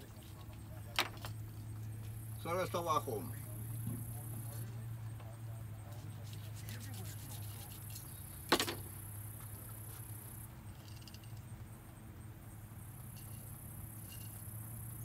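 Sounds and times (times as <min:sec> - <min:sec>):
insect trill: 0:00.0 - 0:05.7, 0:06.9 - 0:15.0.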